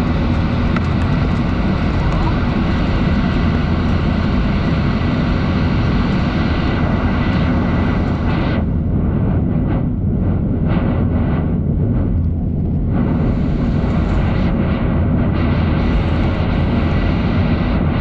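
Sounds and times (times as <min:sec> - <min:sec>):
faint high engine whine: 0:00.0 - 0:18.0
jet engine cabin rumble: 0:00.0 - 0:18.0.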